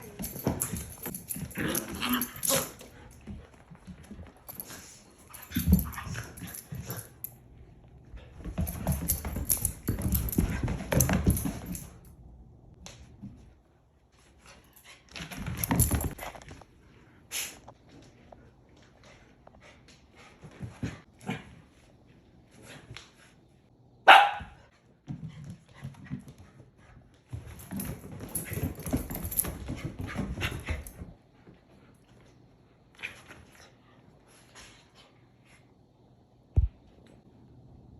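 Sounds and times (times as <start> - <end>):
dogs playing: 0.0 - 23.6, 24.7 - 36.2.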